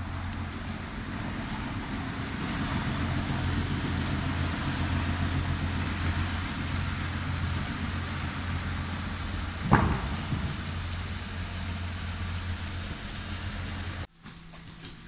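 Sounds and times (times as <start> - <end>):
motorboat engines droning: 0.0 - 14.1.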